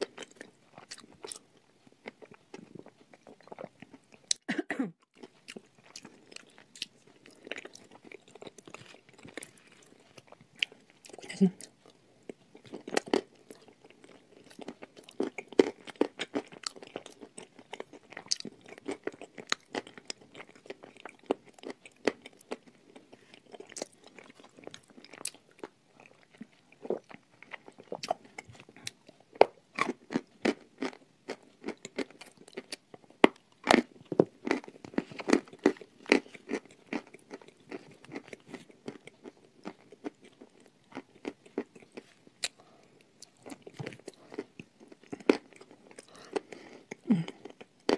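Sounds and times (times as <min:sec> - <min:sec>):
chewing with crunches: 0:00.0 - 0:47.9.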